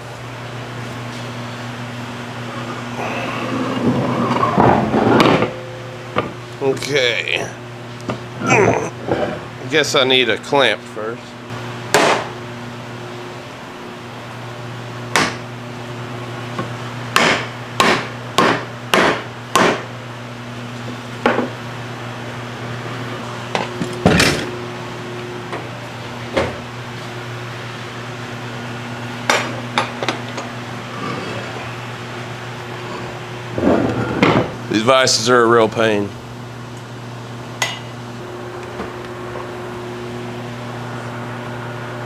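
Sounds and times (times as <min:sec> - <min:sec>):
steady low hum: 0:00.0 - 0:16.4, 0:20.1 - 0:42.0.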